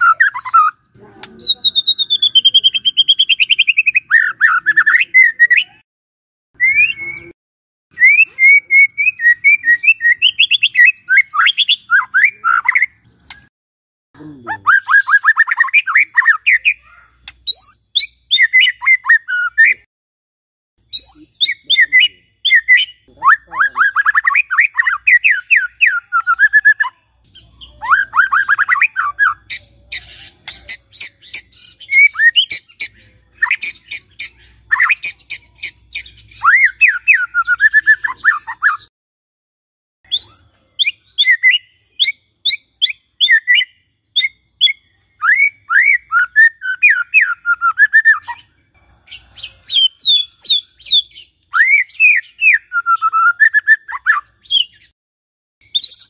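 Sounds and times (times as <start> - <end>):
bird singing whistled notes: 0.0 - 0.8, 1.4 - 5.8, 6.6 - 13.5, 14.6 - 19.9, 20.8 - 38.9, 40.1 - 55.0, 55.6 - 56.0.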